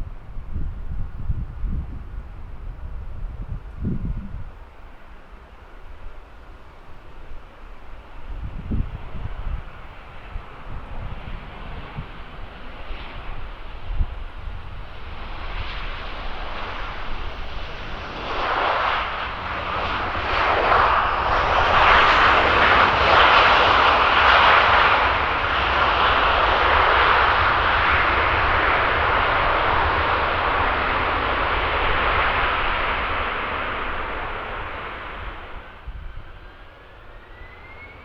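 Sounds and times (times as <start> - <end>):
jet airliner engines roaring: 0.0 - 38.0.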